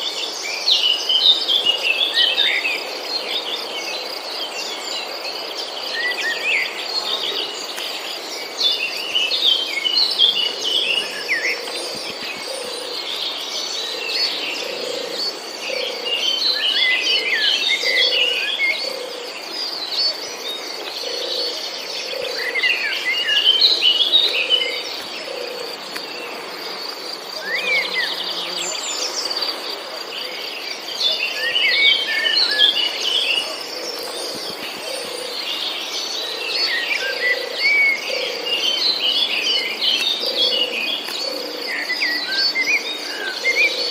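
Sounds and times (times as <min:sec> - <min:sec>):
insect drone: 0:00.0 - 0:43.9
birds chirping: 0:05.6 - 0:43.9.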